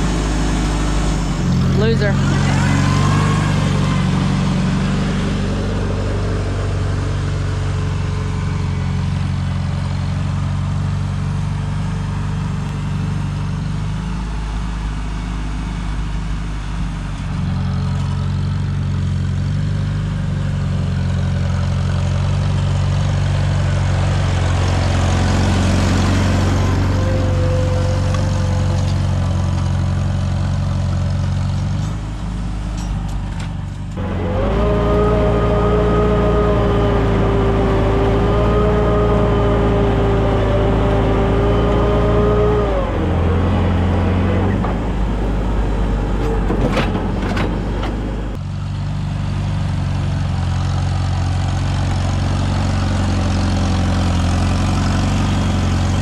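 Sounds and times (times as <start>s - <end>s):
tractor engine pulling a plow: 0.0s - 56.0s.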